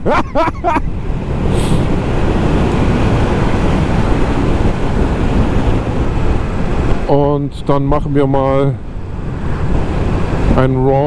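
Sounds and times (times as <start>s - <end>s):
wind noise: 0.0s - 11.0s.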